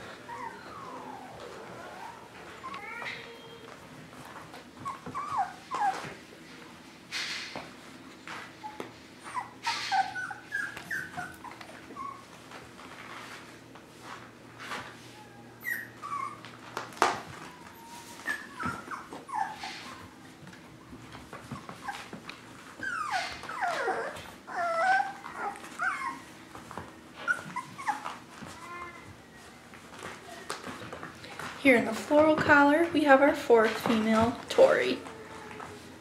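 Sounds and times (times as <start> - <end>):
puppies whining: 0.0 - 6.3, 8.2 - 13.4, 14.6 - 31.4, 34.1 - 36.0.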